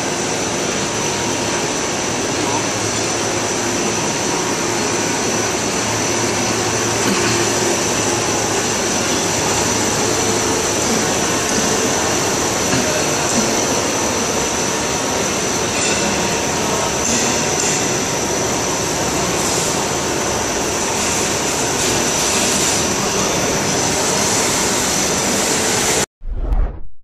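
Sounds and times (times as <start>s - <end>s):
high machine whine: 0.0s - 26.1s
loud machine noise: 0.0s - 26.1s.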